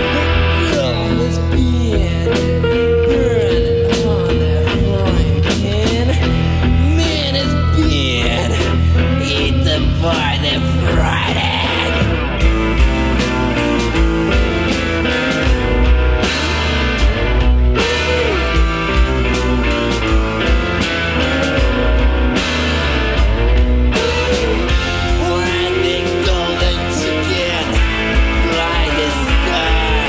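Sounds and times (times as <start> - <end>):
punk rock band music: 0.0 - 30.0.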